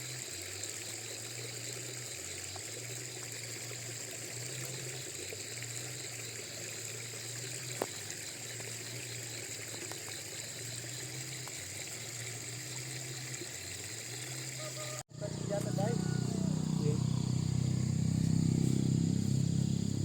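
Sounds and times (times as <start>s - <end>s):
water running and trickling: 0.0s - 16.6s.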